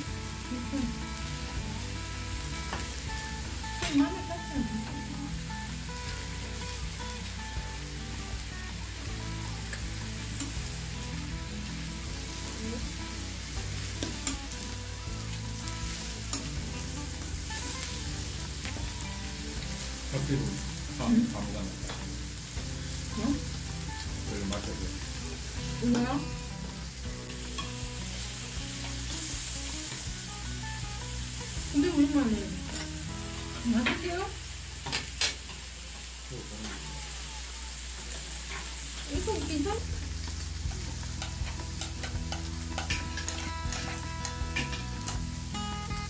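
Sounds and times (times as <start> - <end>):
beef sizzling on a grill pan: 0.0 - 46.0.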